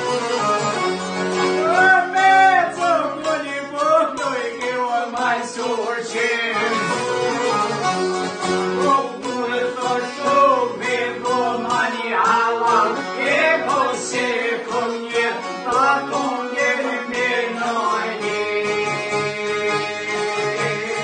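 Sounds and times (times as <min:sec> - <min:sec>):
accordion: 0:00.0 - 0:21.0
plucked lutes: 0:00.0 - 0:21.0
man singing: 0:01.5 - 0:07.5, 0:08.8 - 0:21.0.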